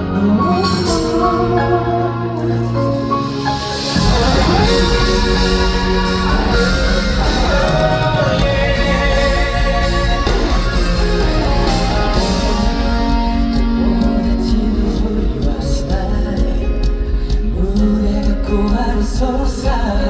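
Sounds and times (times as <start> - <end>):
live pop-rock band music: 0.0 - 20.0.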